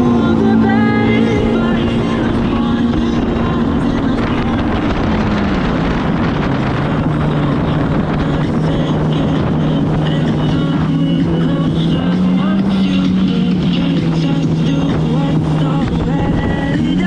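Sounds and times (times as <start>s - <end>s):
jet ski engine running: 0.0s - 17.0s
water rushing: 0.0s - 17.0s
wind noise: 0.0s - 17.0s.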